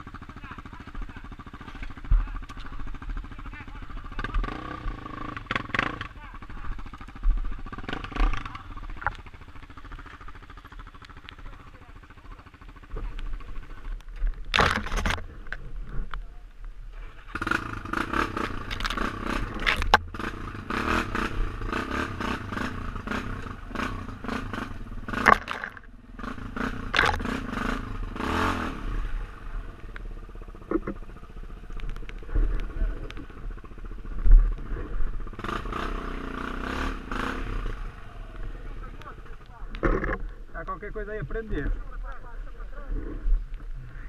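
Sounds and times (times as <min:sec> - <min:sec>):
motorcycle engine revving: 0:00.0 - 0:16.2, 0:16.8 - 0:44.0.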